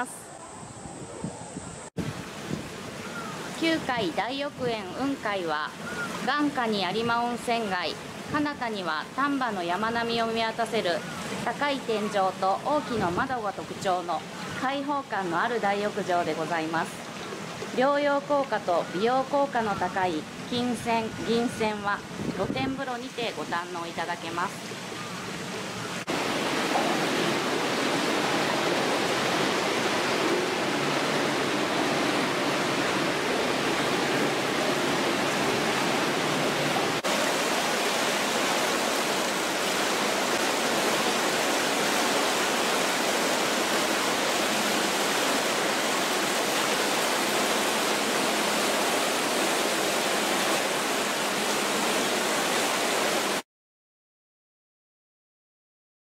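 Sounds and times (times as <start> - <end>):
running water rushing: 0.0 - 53.4.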